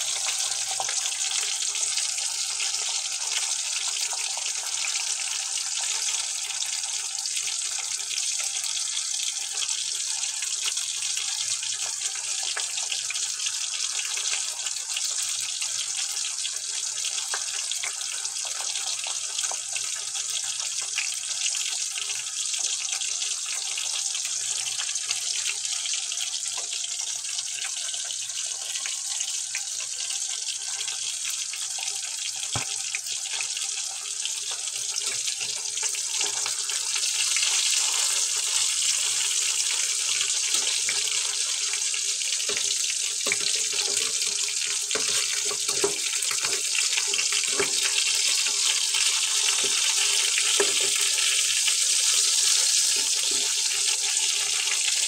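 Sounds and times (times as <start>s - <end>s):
meat frying in oil: 0.0s - 55.0s.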